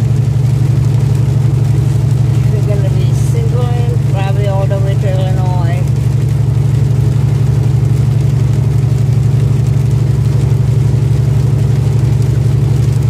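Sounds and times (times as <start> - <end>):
truck engine low hum: 0.0 - 13.0.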